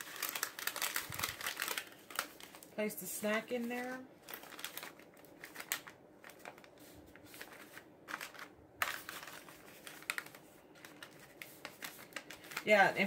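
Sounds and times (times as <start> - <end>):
paper wrapper rustling: 0.0 - 2.8, 3.4 - 13.0.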